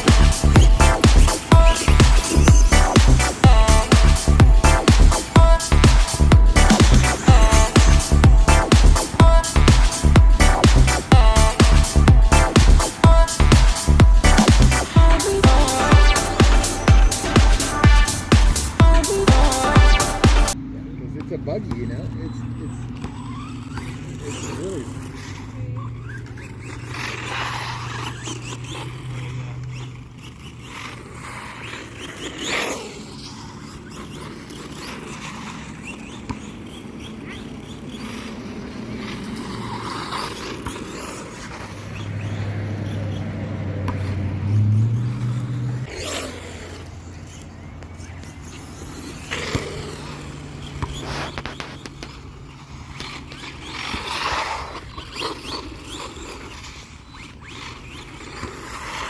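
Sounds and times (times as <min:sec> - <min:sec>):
rc car motor humming: 0:00.0 - 0:20.6, 0:22.0 - 0:43.3, 0:44.4 - 0:59.0
tires scraping on dirt: 0:00.0 - 0:59.0.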